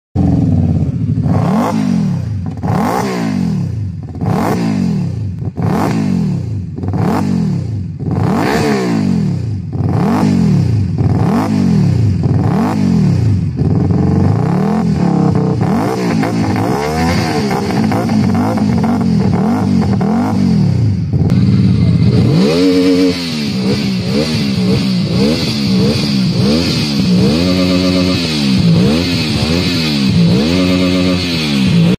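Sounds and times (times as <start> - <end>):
motorcycle engine revving: 0.2 - 31.9.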